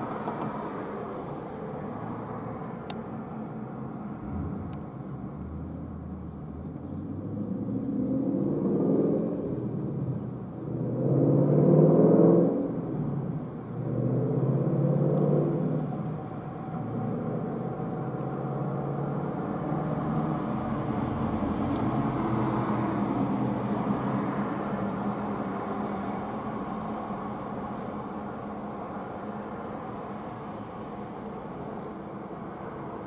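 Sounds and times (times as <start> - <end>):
car engine humming: 0.0 - 33.0.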